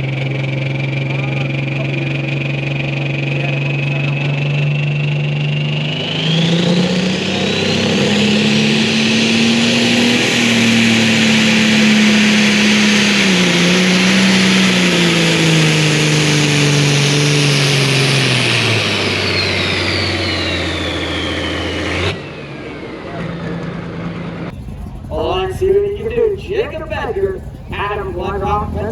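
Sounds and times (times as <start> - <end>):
high turbo whine: 0.0 - 28.9
tractor engine at full throttle: 0.0 - 28.9.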